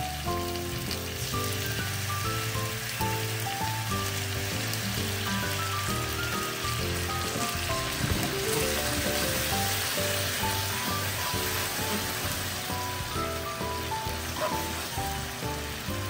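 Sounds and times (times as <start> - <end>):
background music: 0.0 - 16.0
food sizzling in a frying pan: 0.0 - 16.0
sauce bubbling: 0.1 - 16.0.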